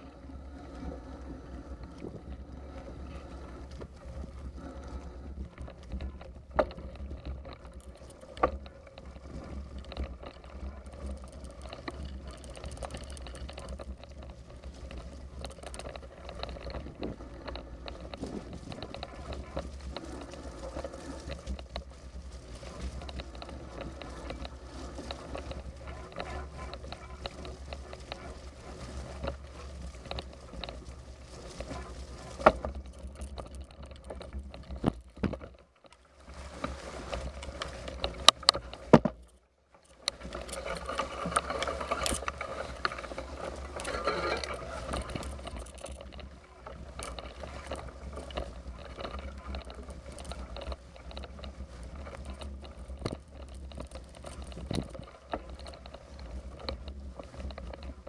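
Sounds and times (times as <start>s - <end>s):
bicycle rattling on rough ground: 0.0s - 58.0s.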